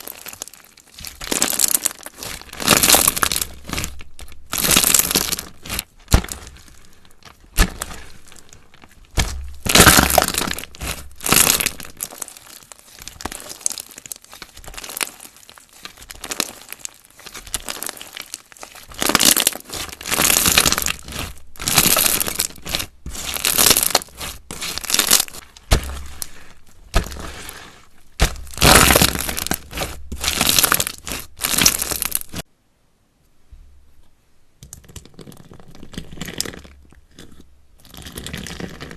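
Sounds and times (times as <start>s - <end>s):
slime crackling and popping: 0.0s - 32.5s.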